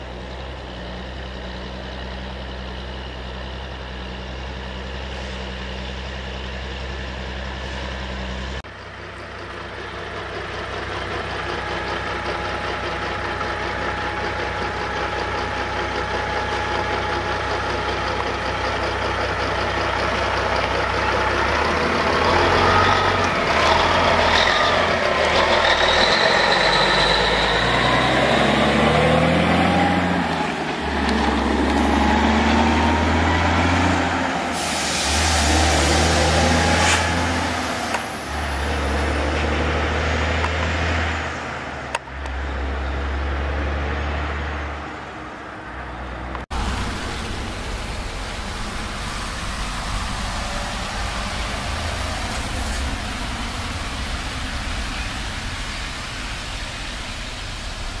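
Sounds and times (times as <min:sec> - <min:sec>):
diesel truck engine shifting gears: 0:00.0 - 0:58.0
truck tyres hissing on wet road: 0:07.4 - 0:43.8, 0:46.5 - 0:58.0.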